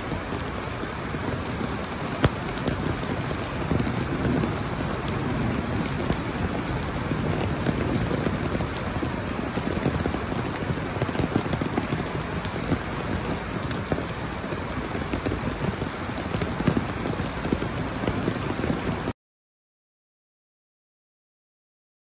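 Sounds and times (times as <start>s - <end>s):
heavy rain splashing in water: 0.0s - 19.1s.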